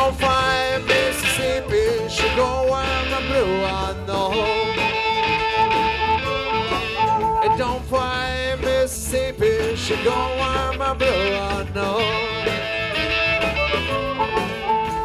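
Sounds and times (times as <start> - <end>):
bass: 0.0 - 15.0
drums: 0.0 - 15.0
lead electric guitar bending notes: 0.0 - 15.0.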